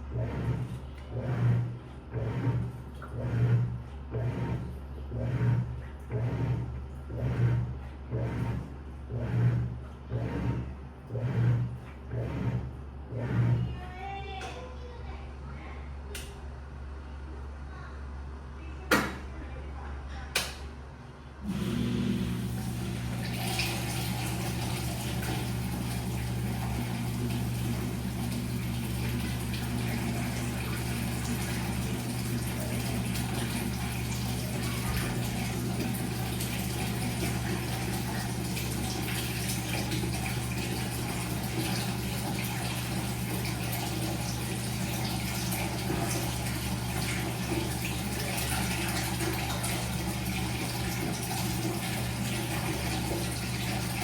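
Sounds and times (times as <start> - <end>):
water flowing in washing machine: 0.0 - 14.6, 21.4 - 54.0
washing machine low hum: 0.0 - 54.0.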